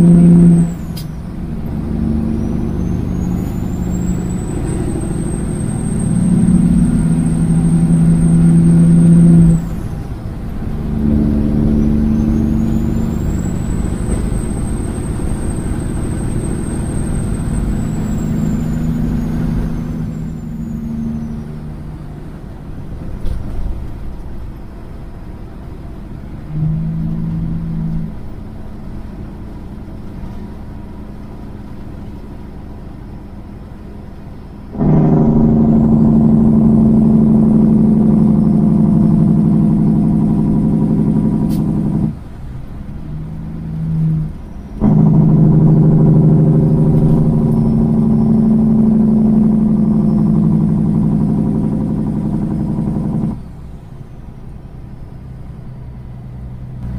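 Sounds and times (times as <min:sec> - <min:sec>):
truck engine and road drone: 0:00.0 - 0:56.9.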